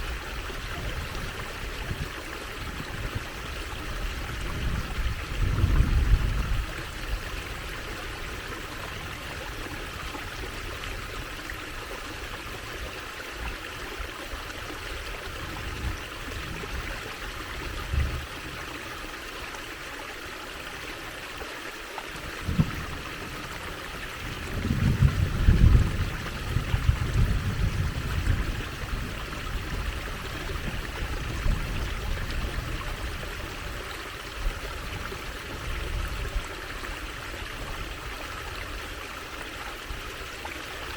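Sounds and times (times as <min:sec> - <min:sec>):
water trickling in a stream: 0:00.0 - 0:40.9.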